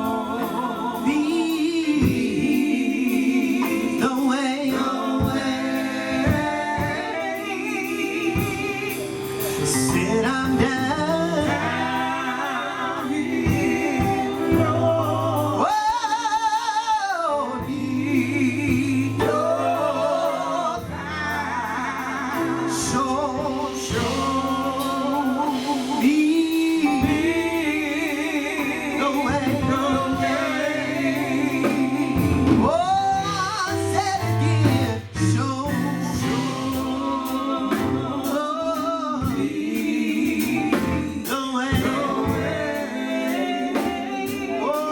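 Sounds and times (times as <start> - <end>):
person singing with vibrato: 0.0 - 44.9.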